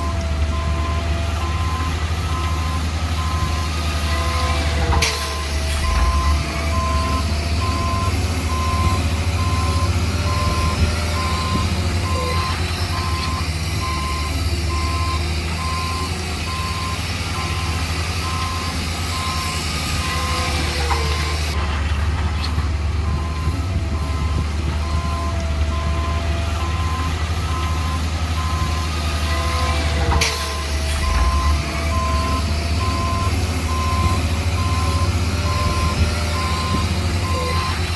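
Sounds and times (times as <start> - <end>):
reversing alarm beeping: 0.0 - 21.6, 23.0 - 37.8
diesel engine hum: 0.0 - 37.9.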